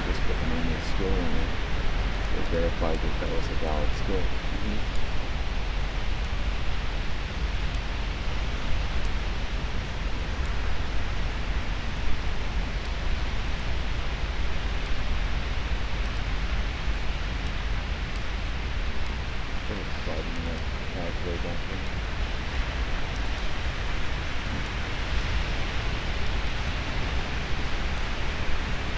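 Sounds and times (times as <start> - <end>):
wind rumbling on microphone: 0.0 - 28.9.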